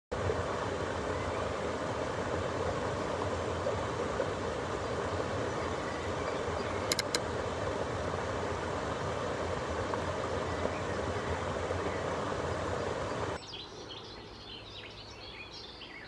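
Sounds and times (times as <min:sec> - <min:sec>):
low rumble with hiss: 0:00.1 - 0:16.0.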